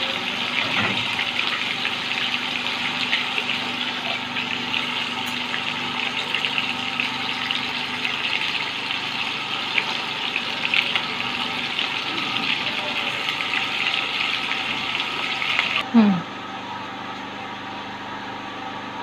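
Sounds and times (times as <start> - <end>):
fish sizzling in hot oil: 0.0 - 15.8.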